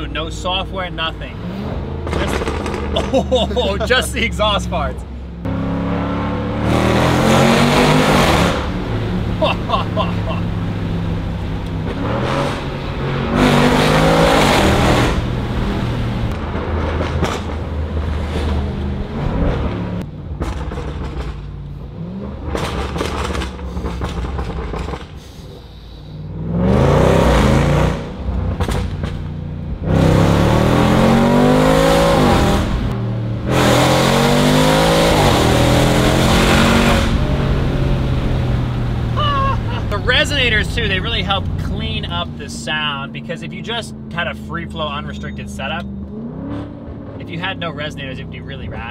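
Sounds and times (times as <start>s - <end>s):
car engine accelerating hard: 0.0s - 25.2s, 26.3s - 48.9s.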